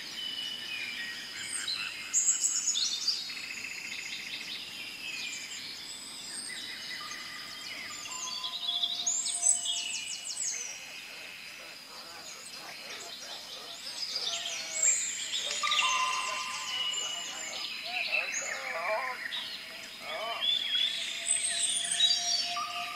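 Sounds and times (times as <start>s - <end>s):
birds chirping and trilling: 0.0s - 22.9s.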